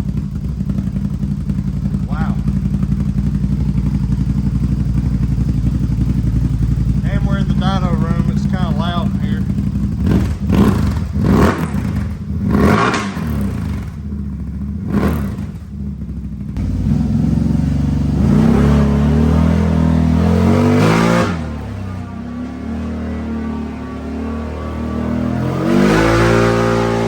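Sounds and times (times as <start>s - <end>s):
engine revving: 0.0s - 27.0s.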